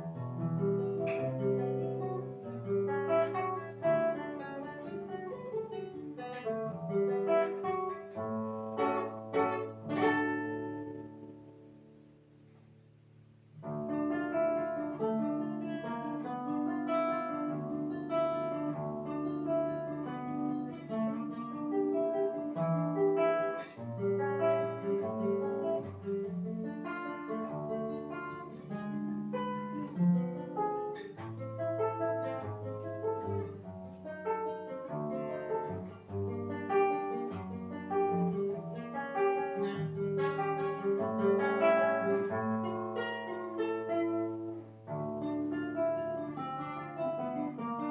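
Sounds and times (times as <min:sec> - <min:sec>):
solo plucked string instrument: 0:00.0 - 0:47.9.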